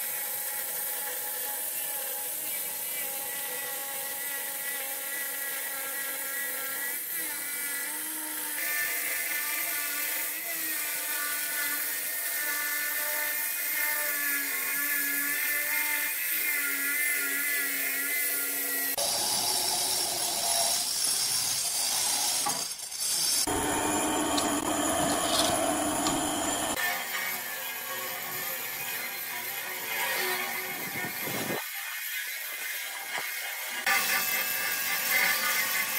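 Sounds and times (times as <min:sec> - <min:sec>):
power tool working stone: 0:00.0 - 0:35.9
stone-cutting saw whining: 0:00.1 - 0:35.9.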